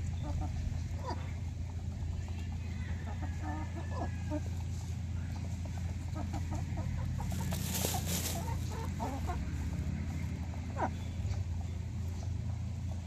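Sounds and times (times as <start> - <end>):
hens clucking softly: 0.0 - 13.0
steady low hum: 0.0 - 13.0.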